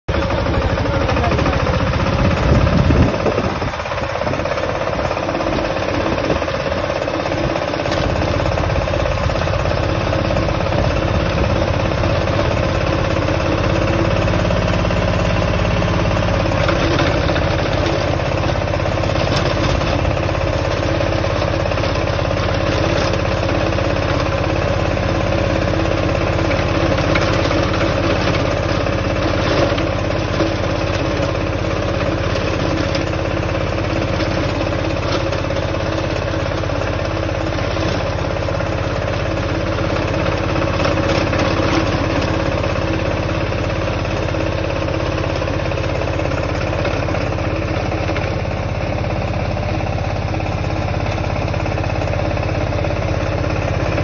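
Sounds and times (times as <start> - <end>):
rotavator tilling soil: 0.1 - 54.0
tractor engine running under load: 0.1 - 54.0.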